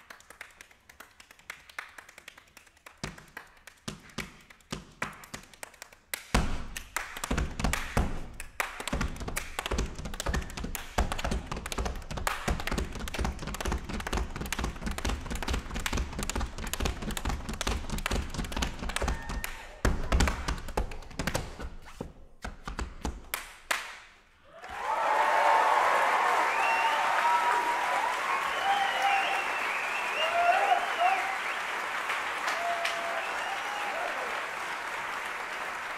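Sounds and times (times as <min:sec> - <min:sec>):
hand claps: 0:00.0 - 0:35.9.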